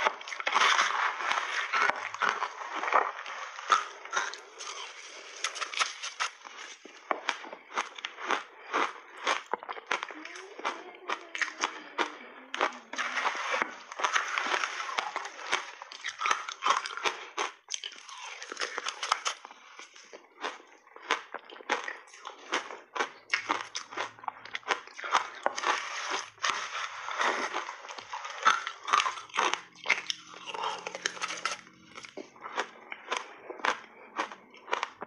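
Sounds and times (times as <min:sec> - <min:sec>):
ice crunching being chewed: 0:00.0 - 0:35.0.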